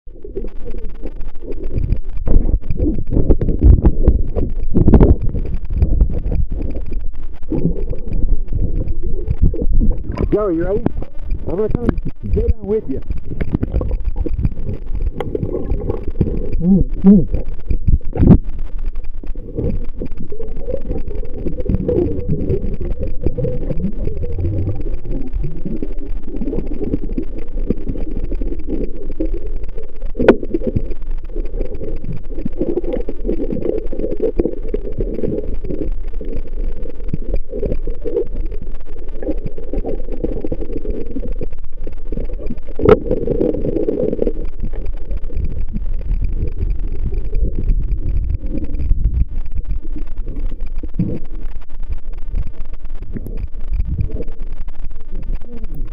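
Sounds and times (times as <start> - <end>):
underwater rumble and sloshing: 0.1 - 55.9.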